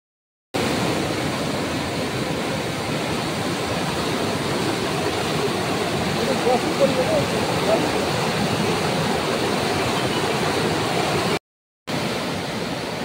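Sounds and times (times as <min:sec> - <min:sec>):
floodwater rushing: 0:00.6 - 0:13.0.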